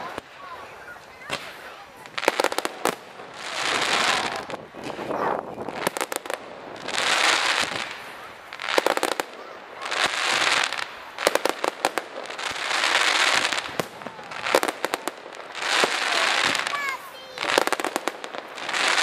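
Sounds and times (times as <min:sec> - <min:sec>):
fireworks crackling hiss: 0:00.0 - 0:19.0
fireworks cracks and pops: 0:00.0 - 0:19.0.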